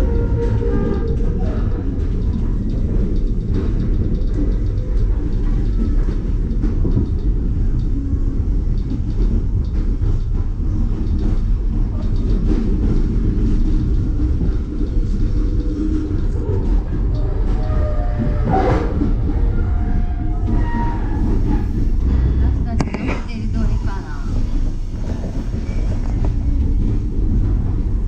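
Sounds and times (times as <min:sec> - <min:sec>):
train rumbling on track: 0:00.0 - 0:28.0
wheels clicking over rails: 0:00.0 - 0:28.0.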